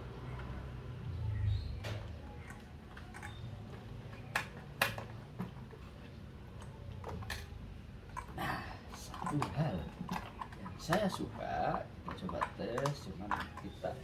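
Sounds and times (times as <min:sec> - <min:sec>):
toy truck clicks and knocks: 0:01.8 - 0:05.7, 0:06.6 - 0:14.0.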